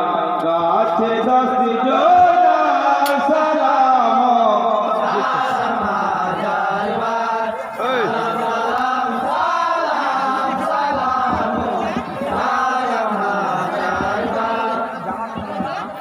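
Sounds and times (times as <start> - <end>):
men chanting together: 1.2 - 16.0.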